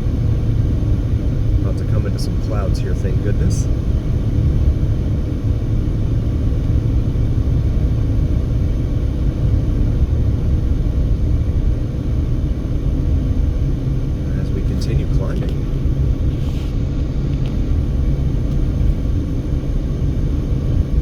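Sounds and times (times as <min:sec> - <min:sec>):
car driving on highway: 0:00.0 - 0:21.0.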